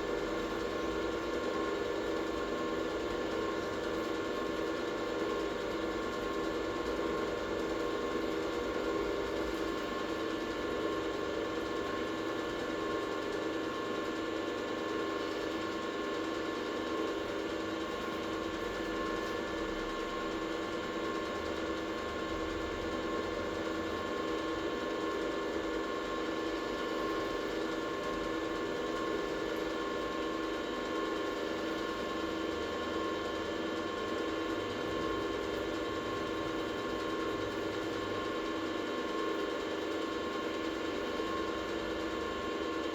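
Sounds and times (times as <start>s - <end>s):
workshop machine humming: 0.0s - 42.9s.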